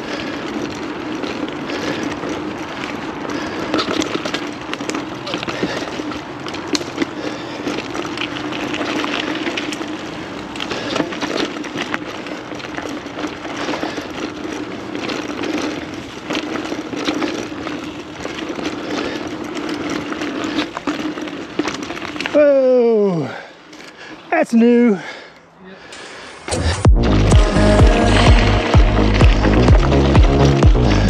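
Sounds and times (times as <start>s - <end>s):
bike clicks and rattles: 0.0s - 24.3s, 25.0s - 31.0s
bike rolling on dirt trail: 0.0s - 31.0s.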